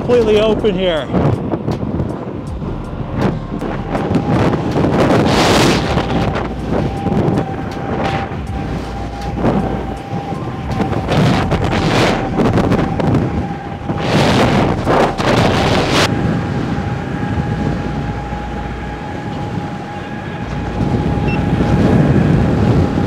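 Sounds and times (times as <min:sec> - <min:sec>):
road noise: 0:00.0 - 0:23.0
thin constant whine: 0:00.0 - 0:23.0
wind buffeting microphone: 0:00.0 - 0:23.0.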